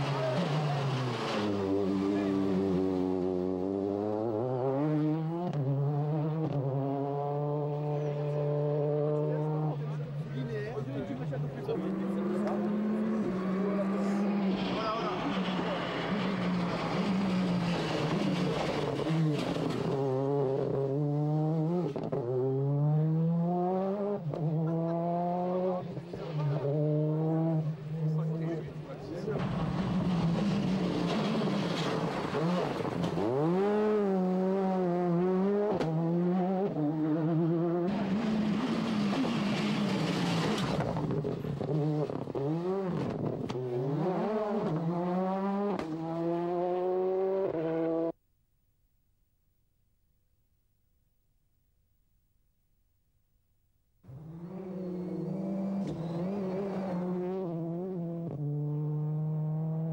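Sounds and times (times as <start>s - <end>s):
rally car engine accelerating: 0.0s - 48.2s, 54.1s - 59.9s.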